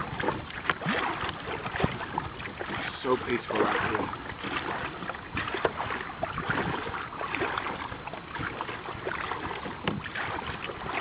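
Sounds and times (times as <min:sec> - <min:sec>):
water splashing around a kayak: 0:00.0 - 0:11.0.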